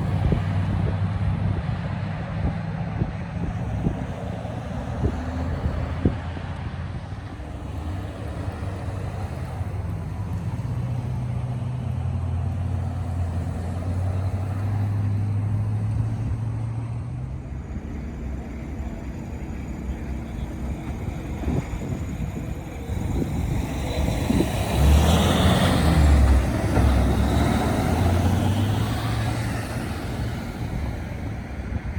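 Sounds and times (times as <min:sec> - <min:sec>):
vehicle engines droning: 0:00.0 - 0:31.9
vehicle passing close: 0:03.4 - 0:31.9.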